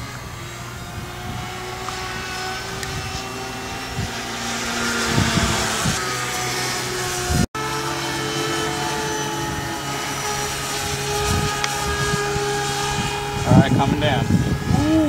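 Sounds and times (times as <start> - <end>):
wind gusts on microphone: 0.0 - 7.5, 8.8 - 15.0
electric motor propeller whine: 0.0 - 15.0.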